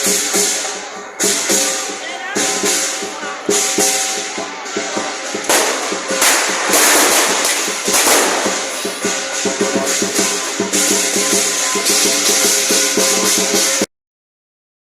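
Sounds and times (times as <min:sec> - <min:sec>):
clashing cymbals: 0:00.0 - 0:13.9
drum beating fast rhythm: 0:00.0 - 0:13.9.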